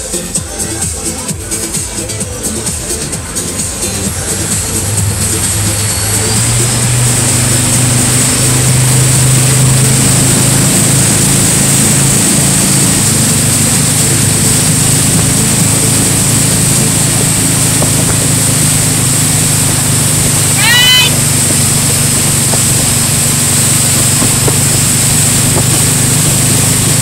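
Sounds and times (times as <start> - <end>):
churning wake rushing: 0.0 - 27.0
motorboat engine droning: 0.0 - 27.0
wind: 0.0 - 27.0.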